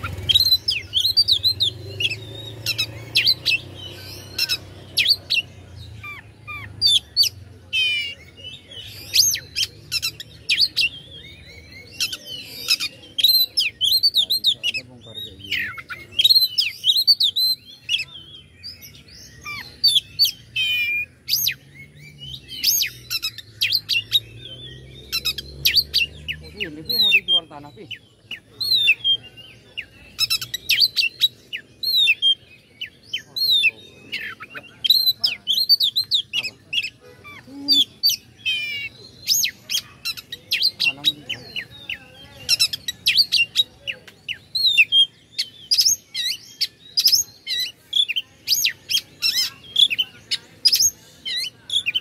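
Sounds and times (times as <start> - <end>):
bird singing whistles and trills: 0.0 - 52.0.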